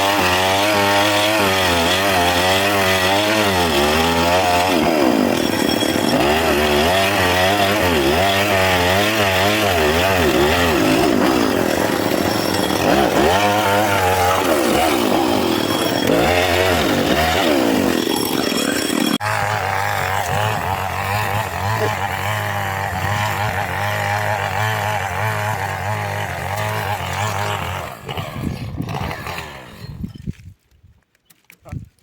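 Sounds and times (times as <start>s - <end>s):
chainsaw cutting wood: 0.0s - 30.1s.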